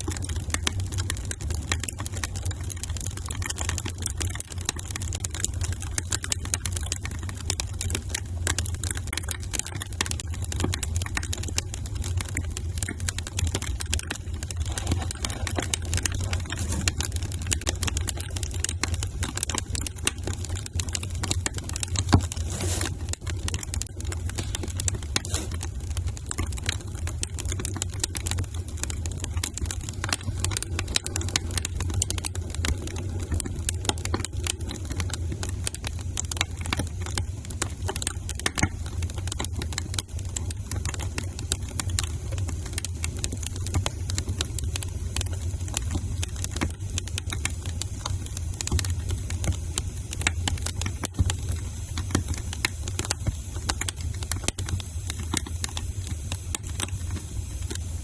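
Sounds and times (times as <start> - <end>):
low steady rumble: 0.0 - 58.0
wood fire snapping and popping: 0.0 - 58.0.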